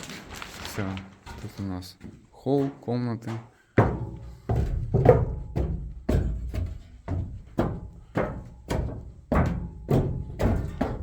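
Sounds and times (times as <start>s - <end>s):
footsteps climbing stairs: 1.2s - 11.0s.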